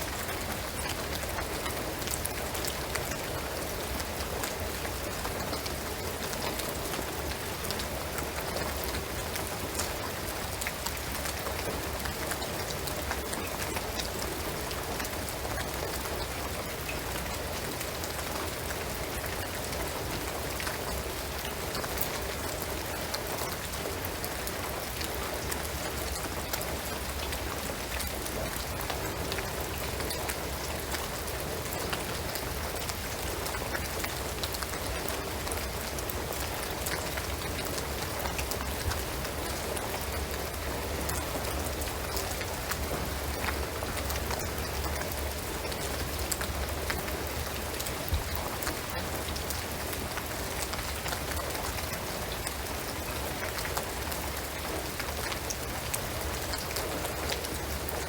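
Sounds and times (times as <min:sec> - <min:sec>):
rain on a shingled roof: 0:00.0 - 0:58.0.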